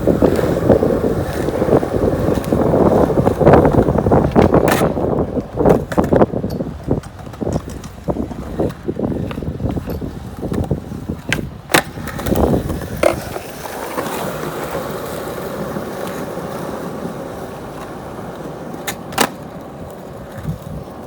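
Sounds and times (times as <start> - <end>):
skateboard clacking: 0.0 - 21.0
skateboard wheels rumbling: 0.0 - 21.0.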